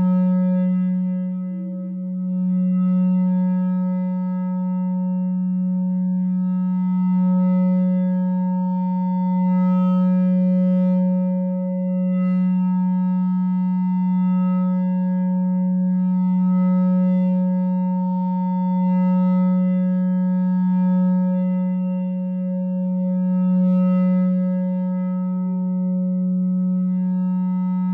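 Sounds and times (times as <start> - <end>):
electronic feedback drone: 0.0 - 27.9.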